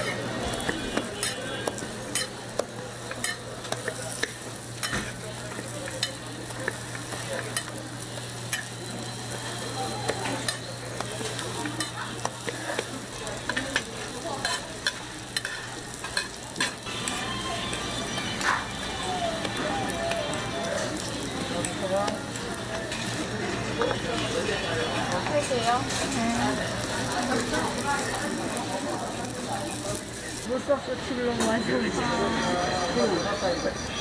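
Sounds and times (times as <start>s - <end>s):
food sizzling in oil: 0.0s - 30.5s.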